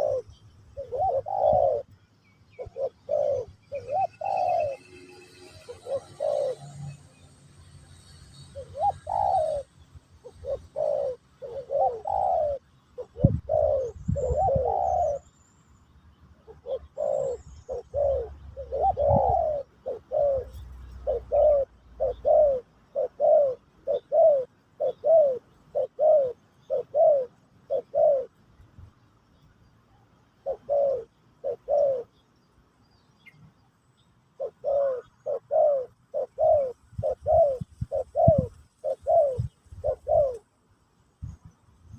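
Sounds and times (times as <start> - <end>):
dove cooing: 0.0 - 7.4, 8.0 - 15.3, 16.4 - 28.4, 30.3 - 32.2, 34.3 - 40.5.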